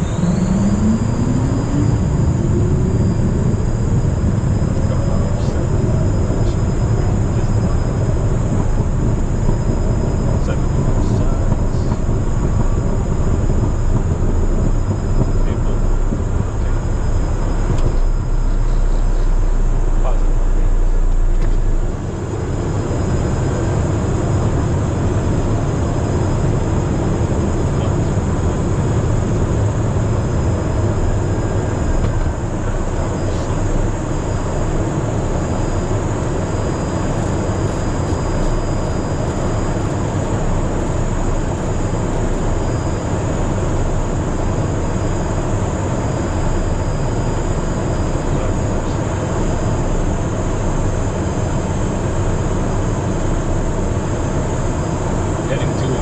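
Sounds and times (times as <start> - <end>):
airflow rushing over fuselage: 0.0 - 48.3
jet engines droning: 0.0 - 56.0
thin high whine: 0.0 - 56.0.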